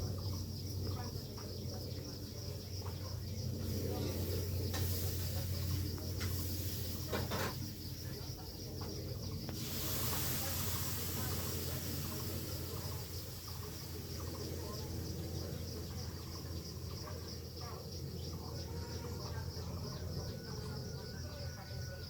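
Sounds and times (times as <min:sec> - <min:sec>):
low steady hum: 0:00.0 - 0:20.8
insects trilling: 0:00.0 - 0:22.0.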